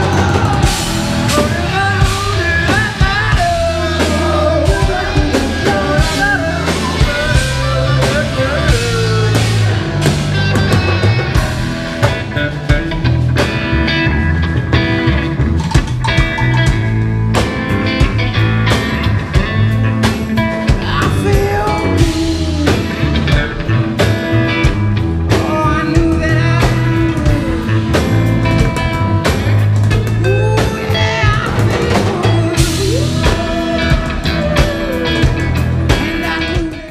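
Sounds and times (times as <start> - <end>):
bass guitar: 0.0 - 36.9
drum kit: 0.0 - 36.9
electric guitar: 0.0 - 36.9.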